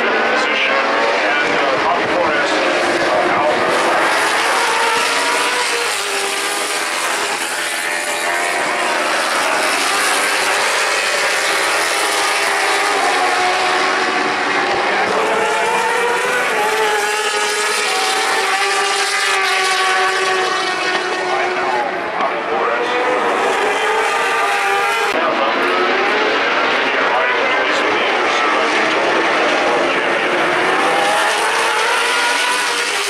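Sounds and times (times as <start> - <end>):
race motorcycles passing at speed: 0.0 - 33.0.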